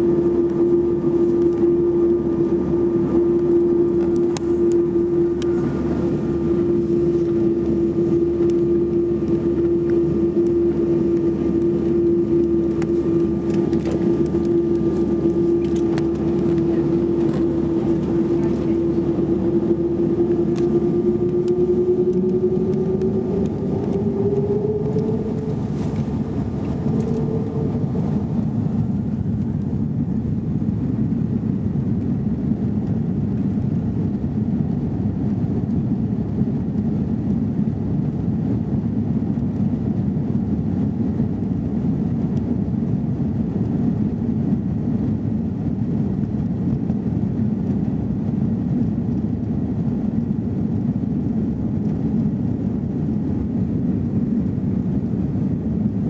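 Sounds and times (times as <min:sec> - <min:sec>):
engine and wheel rumble: 0:00.0 - 0:56.0
jet engines whining: 0:00.0 - 0:56.0.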